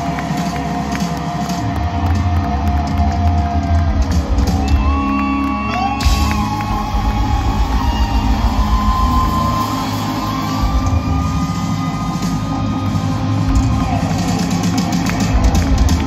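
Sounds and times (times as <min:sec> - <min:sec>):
crowd whooping and shouting: 0:00.0 - 0:16.0.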